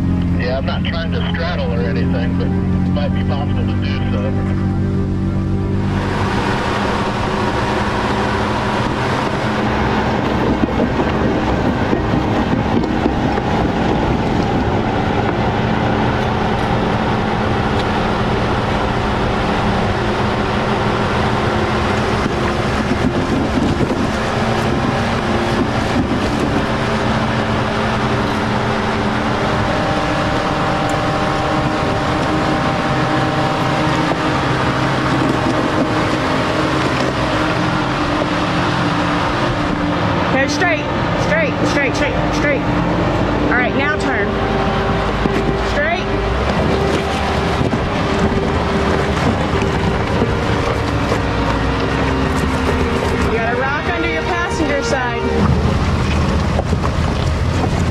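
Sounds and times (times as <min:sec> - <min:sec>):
car engine running at low revs: 0:00.0 - 0:57.9.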